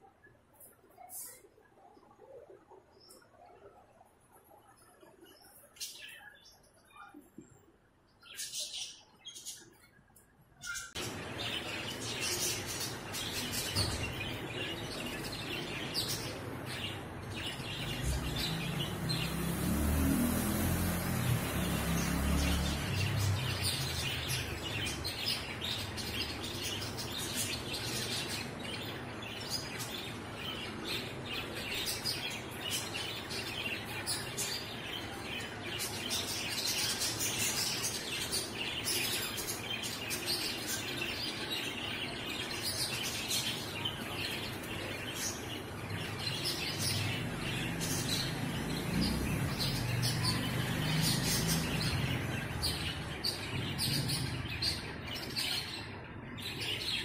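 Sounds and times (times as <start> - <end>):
small birds chirping: 0.0 - 57.0
steady background noise: 0.0 - 57.0.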